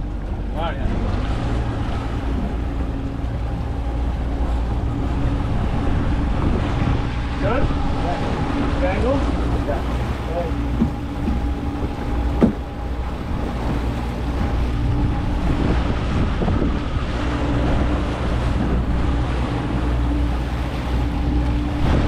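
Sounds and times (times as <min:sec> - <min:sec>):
boat motor running: 0:00.0 - 0:22.0
water wash: 0:00.0 - 0:22.0
wind buffeting microphone: 0:00.0 - 0:22.0.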